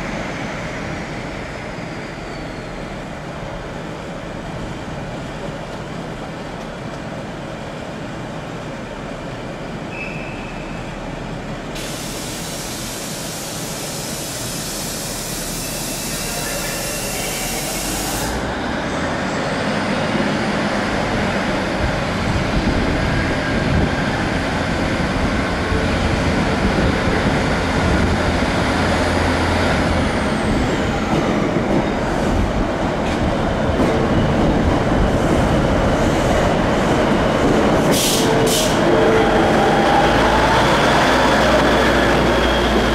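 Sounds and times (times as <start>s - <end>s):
train diesel engines: 0.0s - 42.9s.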